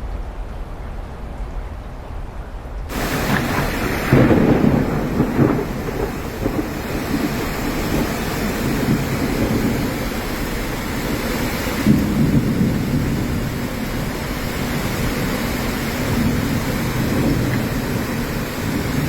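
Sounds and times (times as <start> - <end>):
heavy rain: 0.0 - 19.0
deep thunder rumble: 2.9 - 19.0.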